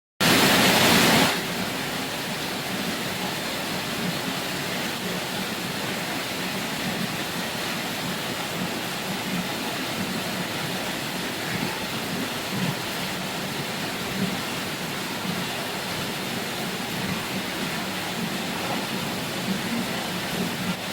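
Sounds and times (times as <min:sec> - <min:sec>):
steady rain falling: 0:00.2 - 0:20.9.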